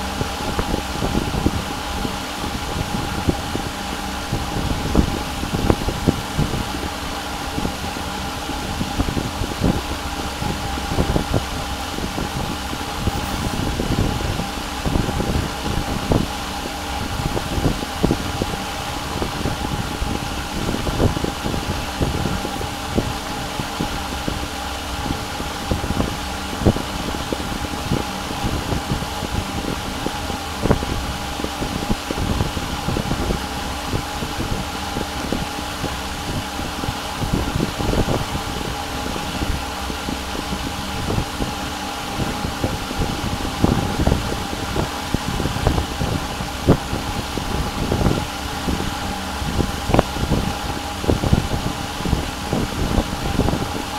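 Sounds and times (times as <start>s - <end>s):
fan hum with whining tones: 0.0s - 53.9s.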